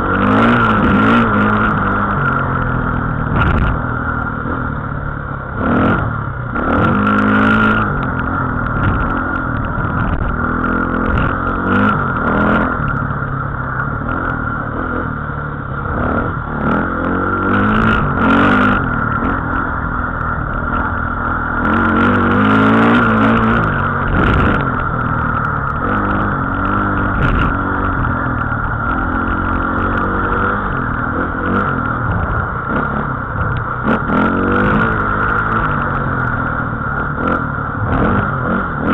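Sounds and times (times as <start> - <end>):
small engine revving: 0.0 - 2.7, 5.5 - 13.0, 15.8 - 19.7, 21.6 - 38.9
steady high whine: 0.0 - 38.9.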